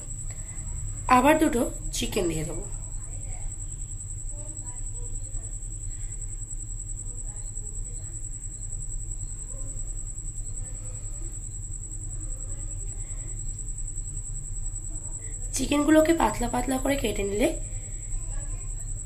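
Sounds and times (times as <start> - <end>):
low steady hum: 0.0 - 19.0
steady high-pitched whine: 0.0 - 19.0.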